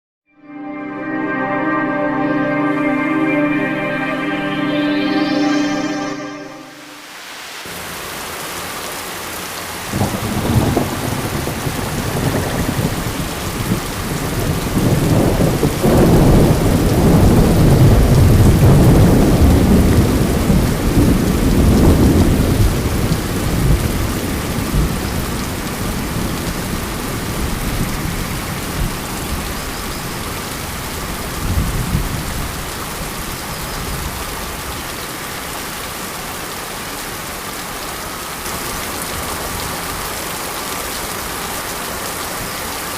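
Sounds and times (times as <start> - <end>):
steady rain falling: 7.0 - 42.9.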